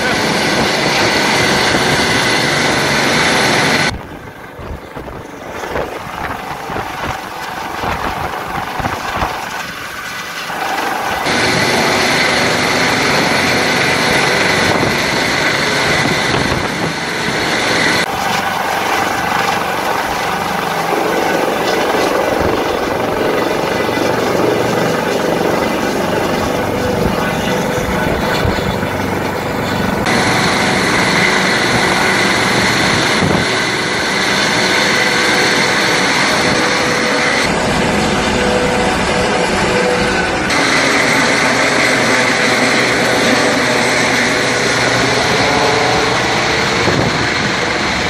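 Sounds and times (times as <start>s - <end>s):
helicopter rotor and turbine: 0.0s - 48.0s.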